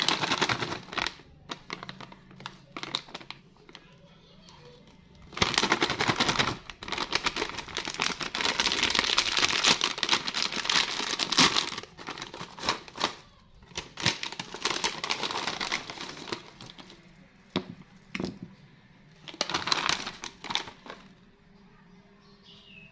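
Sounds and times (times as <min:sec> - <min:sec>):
snack bag crinkling: 0:00.0 - 0:03.9, 0:05.2 - 0:18.4, 0:19.2 - 0:21.1.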